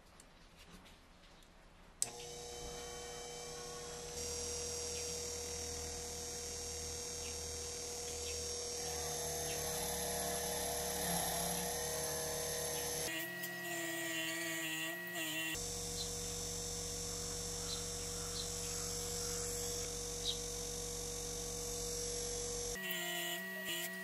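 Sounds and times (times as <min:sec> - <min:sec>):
polisher motor humming: 0:02.0 - 0:24.0.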